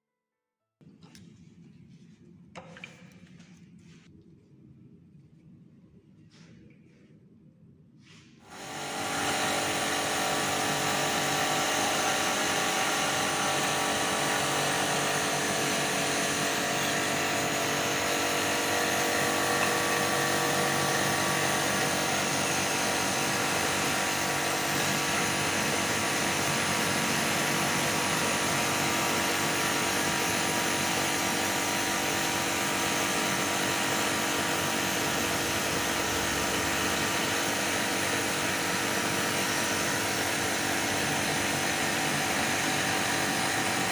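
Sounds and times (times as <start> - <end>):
pressure washer motor whine and hiss: 8.4 - 43.9.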